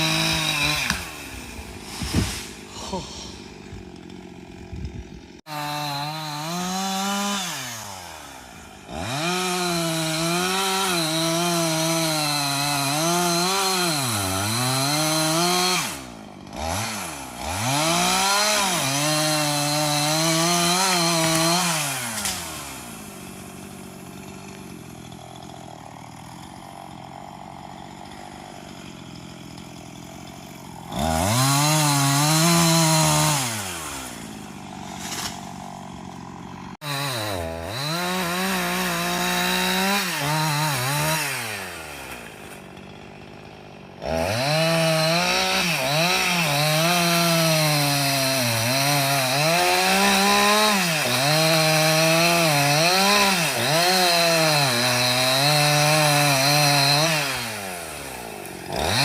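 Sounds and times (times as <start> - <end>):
chainsaw revving while cutting wood: 0.0 - 59.0.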